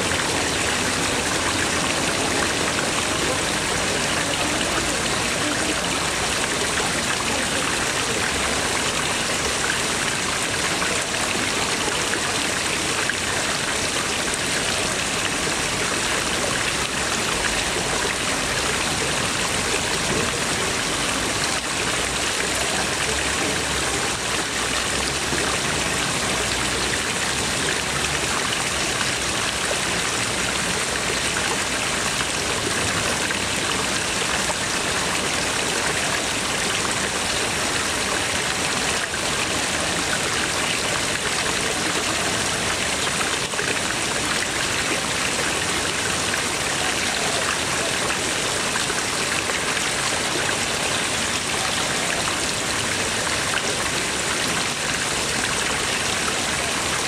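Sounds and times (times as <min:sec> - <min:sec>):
water splashing into a pond: 0:00.0 - 0:57.0.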